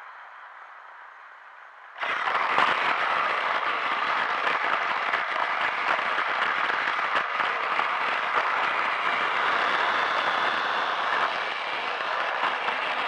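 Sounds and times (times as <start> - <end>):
toy train rattling whir: 2.0 - 13.0.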